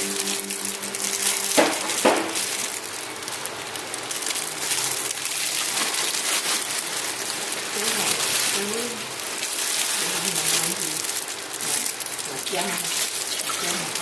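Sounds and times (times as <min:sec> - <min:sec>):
bread roll tearing: 0:00.0 - 0:14.0
plastic gloves crinkling: 0:00.0 - 0:14.0.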